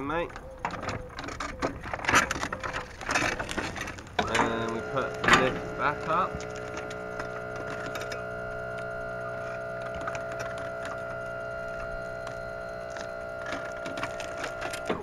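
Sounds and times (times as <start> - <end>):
electric lift motor humming: 0.4 - 15.0.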